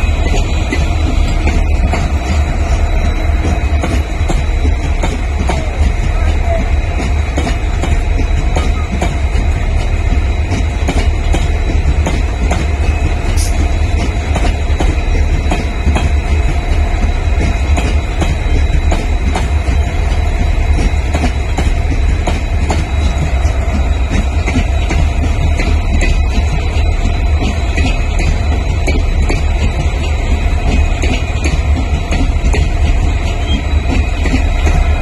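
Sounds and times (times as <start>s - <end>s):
diesel locomotives idling: 0.0s - 35.0s
train coaches rolling past: 0.0s - 35.0s.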